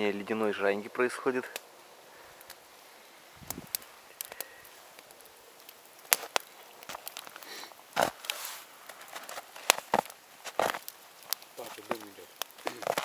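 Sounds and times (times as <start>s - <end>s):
campfire crackling: 0.0s - 13.0s
low background hiss: 0.0s - 13.0s.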